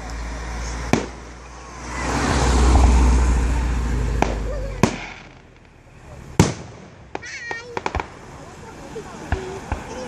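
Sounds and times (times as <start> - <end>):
rush of firework noise: 0.0 - 10.0
firework bangs: 0.6 - 2.9, 4.0 - 10.0.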